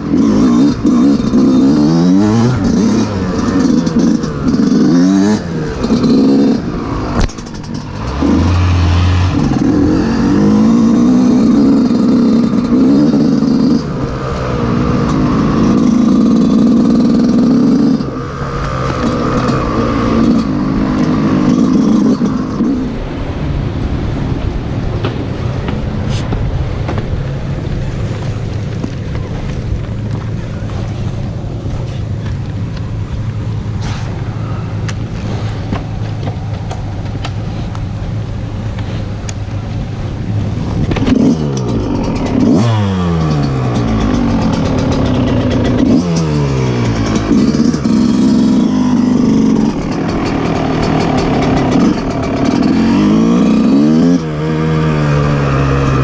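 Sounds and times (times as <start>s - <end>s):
dirt bike engine idling and revving: 0.0s - 56.0s.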